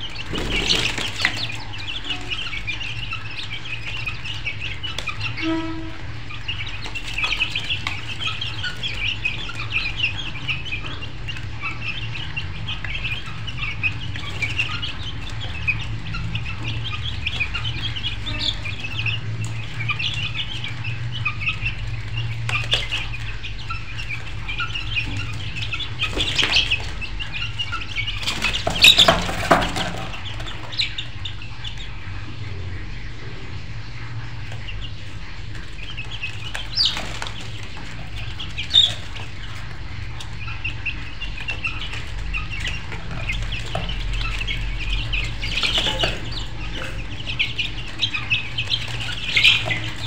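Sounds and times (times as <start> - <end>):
birds chirping and calling: 0.0 - 50.0.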